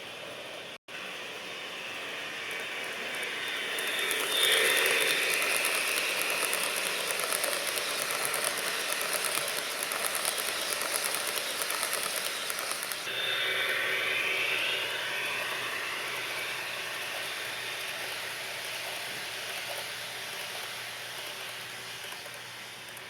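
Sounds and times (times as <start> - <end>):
model train running on track: 0.0 - 23.0.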